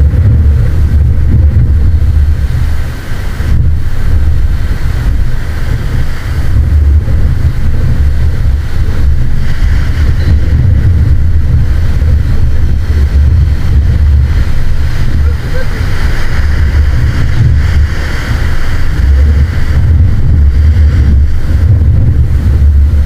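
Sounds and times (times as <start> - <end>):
surf washing: 0.0 - 23.0
wind buffeting microphone: 0.0 - 23.0.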